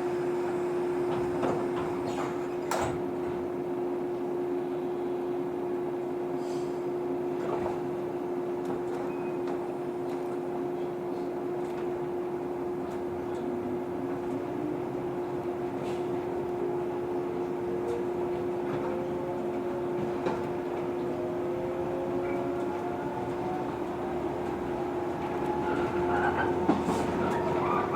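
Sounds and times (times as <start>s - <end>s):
steady train hum: 0.0s - 27.9s.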